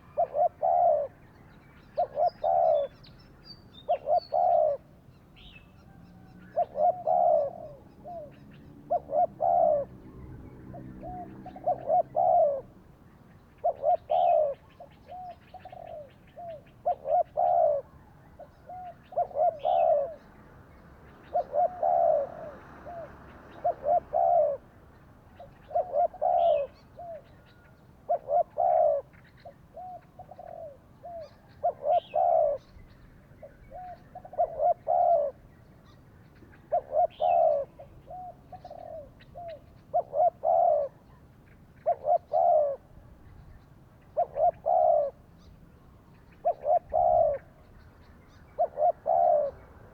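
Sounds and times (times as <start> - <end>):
doves cooing: 0.0 - 1.2, 2.0 - 3.0, 3.9 - 4.9, 6.2 - 12.8, 13.6 - 20.4, 21.2 - 24.7, 25.4 - 35.5, 36.4 - 41.2, 41.8 - 43.0, 44.1 - 45.3, 46.4 - 49.9
small birds chirping: 0.0 - 49.9.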